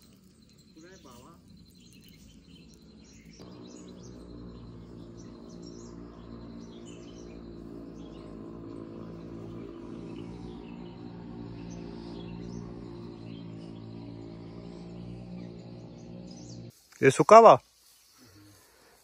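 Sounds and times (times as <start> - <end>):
birds chirping: 0.0 - 19.0
droning ambient music: 1.5 - 16.8.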